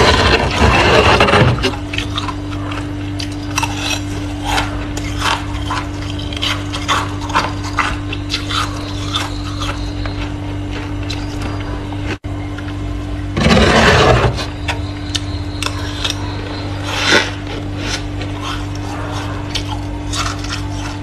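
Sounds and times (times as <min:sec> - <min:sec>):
frost crunching: 0:00.0 - 0:12.2, 0:15.1 - 0:21.0
steady low hum: 0:00.0 - 0:21.0.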